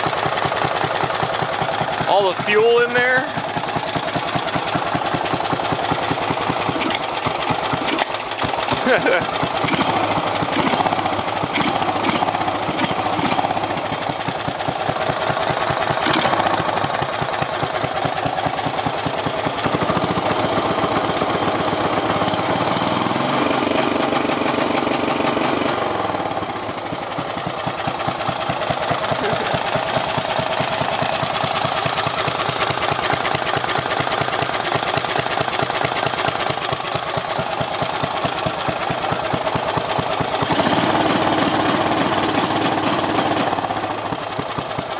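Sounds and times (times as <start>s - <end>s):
lawn tractor engine running: 0.0s - 44.9s.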